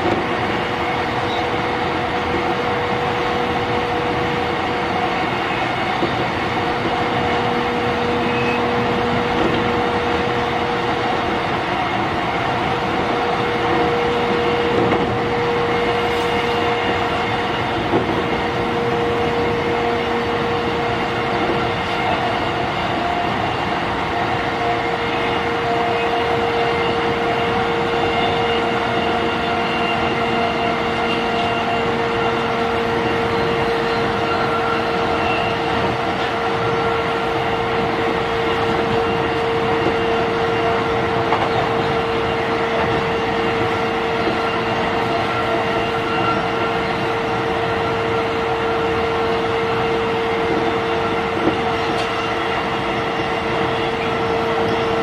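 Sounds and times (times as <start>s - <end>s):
train rail and wheel rumble: 0.0s - 55.0s.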